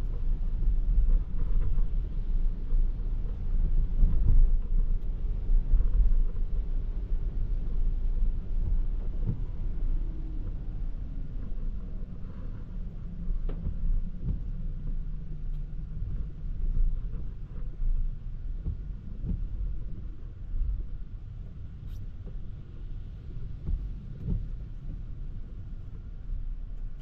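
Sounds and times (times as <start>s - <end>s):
road and wind noise rumble: 0.0s - 27.0s.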